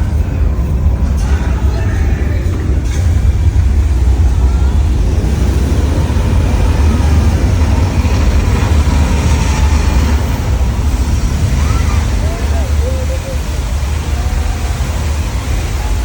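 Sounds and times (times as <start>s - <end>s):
deep earthquake rumble: 0.0s - 16.0s.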